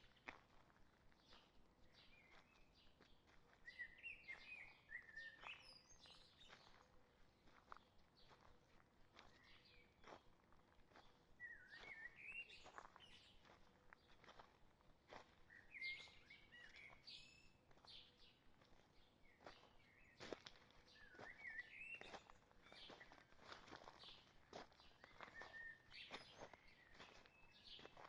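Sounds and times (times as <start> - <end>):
footsteps on forest trail: 0.0 - 28.0.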